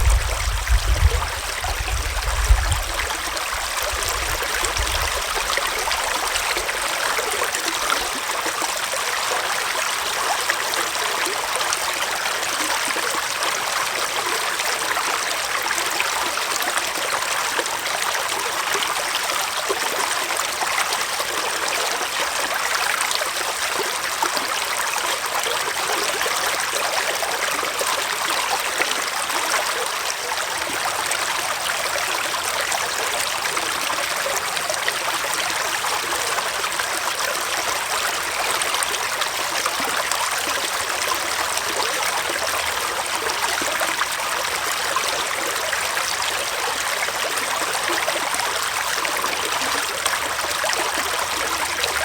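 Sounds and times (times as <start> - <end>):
stream flowing over stones: 0.0 - 52.0.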